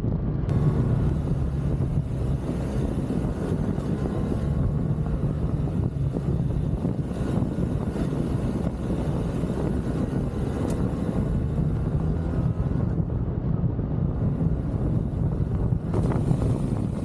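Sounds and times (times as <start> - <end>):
motorcycle engine rumbling: 0.0 - 17.0
wind rushing over microphone: 0.0 - 17.0.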